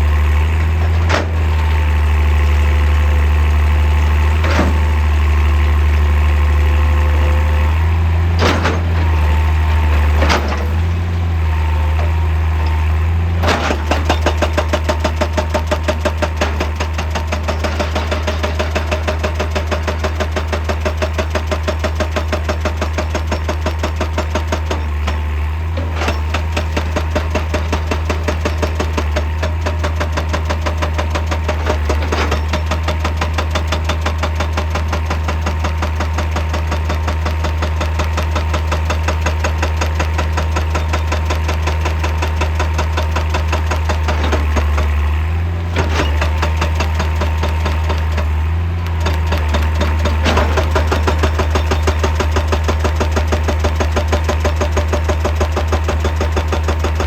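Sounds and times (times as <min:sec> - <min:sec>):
excavator engine running: 0:00.0 - 0:57.0
hydraulic breaker hammering rock: 0:00.2 - 0:57.0.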